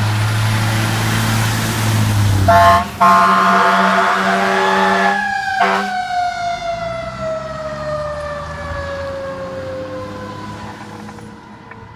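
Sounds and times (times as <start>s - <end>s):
fire engine siren: 0.0s - 11.9s
truck engine rumble: 0.0s - 11.9s.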